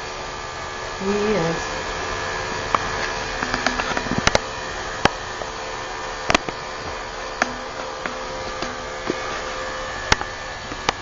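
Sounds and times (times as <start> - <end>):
electric clippers buzzing: 0.0 - 11.0.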